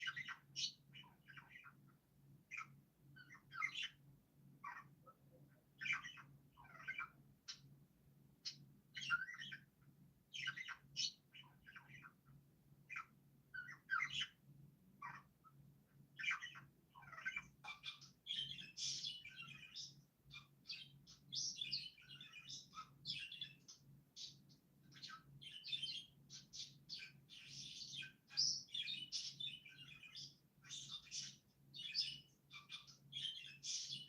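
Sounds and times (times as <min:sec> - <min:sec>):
faint low hum: 0:00.0 - 0:34.0
small birds chirping: 0:00.0 - 0:34.0.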